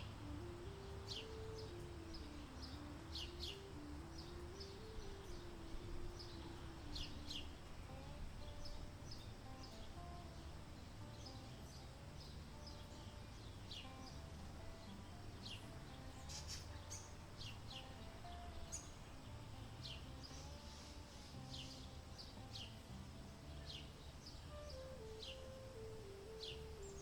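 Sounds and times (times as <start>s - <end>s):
faint bird chirps: 0.0s - 27.0s
low outdoor rumble: 0.0s - 27.0s
soft held tones: 0.0s - 27.0s.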